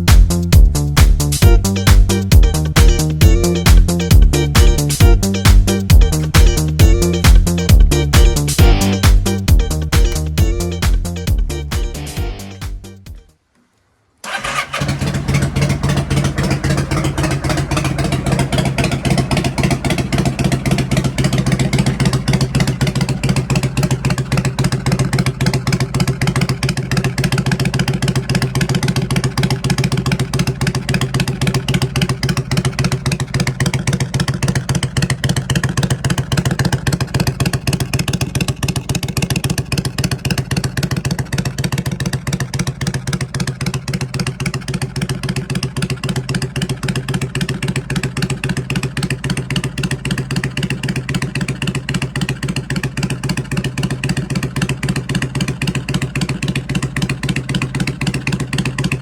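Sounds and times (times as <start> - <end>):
motorcycle engine idling: 0.0 - 13.3, 14.2 - 59.0.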